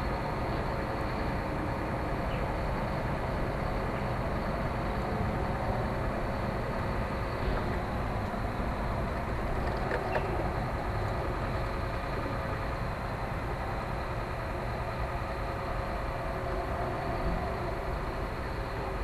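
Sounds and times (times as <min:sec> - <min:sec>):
faint constant tones: 0:00.0 - 0:19.0
low rumbling drone: 0:00.0 - 0:19.0.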